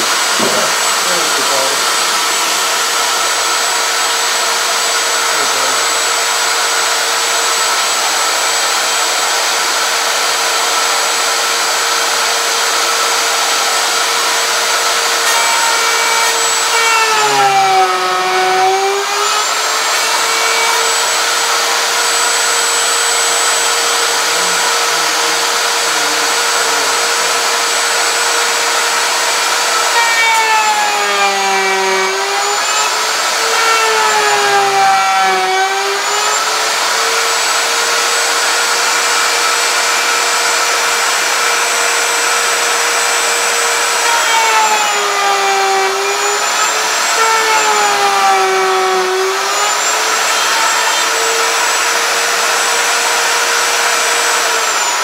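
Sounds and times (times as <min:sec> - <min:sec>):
router winding down: 0:00.0 - 0:55.0
wood router whining: 0:00.0 - 0:55.0.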